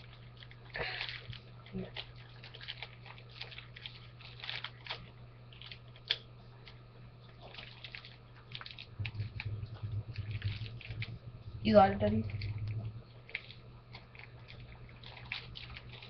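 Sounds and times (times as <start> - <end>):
plastic pouch crinkling: 0.0 - 6.2, 7.3 - 16.0
low electrical hum: 0.0 - 16.0.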